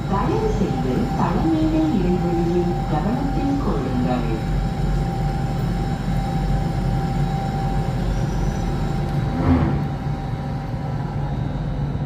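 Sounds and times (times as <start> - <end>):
train equipment low hum: 0.0 - 12.0.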